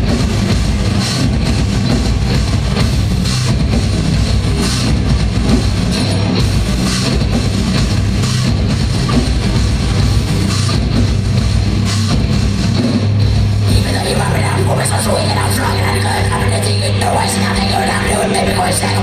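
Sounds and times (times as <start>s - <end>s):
heavy metal band playing live: 0.0s - 19.0s.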